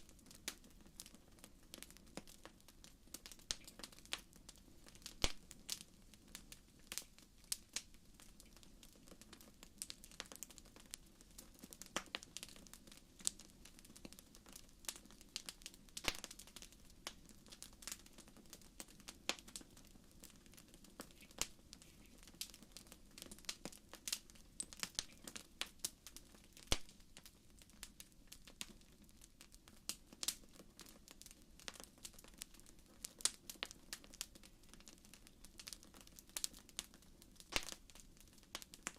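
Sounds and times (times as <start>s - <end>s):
low hiss of burning: 0.0s - 38.9s
wood fire crackling: 0.0s - 38.9s.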